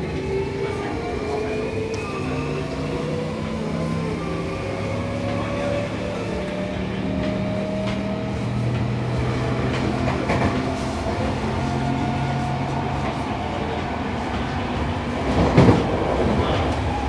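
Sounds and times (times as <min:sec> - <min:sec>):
train motor hum and whine: 0:00.0 - 0:17.0.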